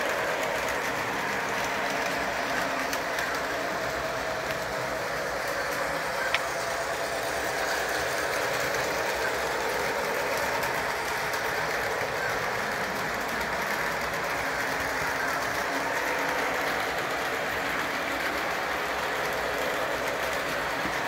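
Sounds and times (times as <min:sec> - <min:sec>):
model train motors whirring: 0:00.0 - 0:21.0.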